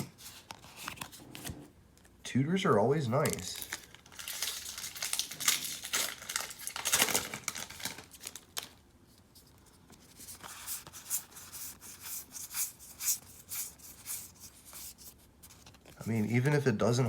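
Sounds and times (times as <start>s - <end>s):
trading cards rustling: 0.0s - 1.6s, 3.0s - 17.0s.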